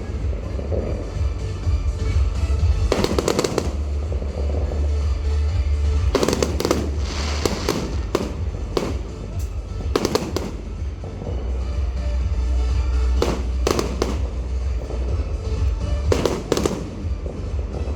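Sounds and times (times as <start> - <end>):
show music: 0.0 - 17.7
fireworks bangs: 2.7 - 17.9.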